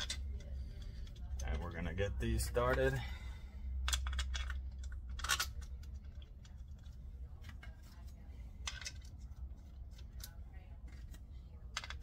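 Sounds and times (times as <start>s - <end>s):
small screws clicking and scraping: 0.0s - 1.8s, 3.8s - 12.0s
low steady hum: 0.0s - 12.0s.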